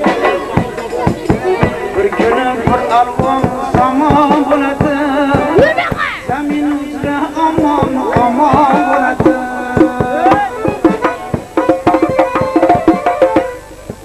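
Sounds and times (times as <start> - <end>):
hand drum fast rhythm: 0.0 - 14.0.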